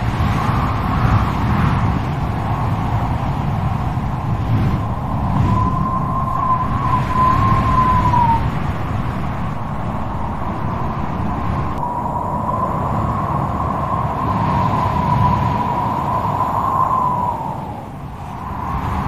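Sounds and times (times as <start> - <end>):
strong wind gusting: 0.0 - 19.0
wind whistling: 0.0 - 19.0.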